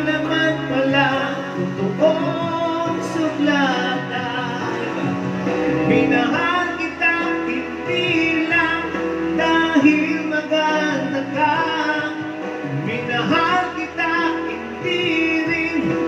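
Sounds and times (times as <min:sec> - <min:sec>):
instrumental accompaniment: 0:00.0 - 0:16.0
person singing: 0:00.0 - 0:16.0.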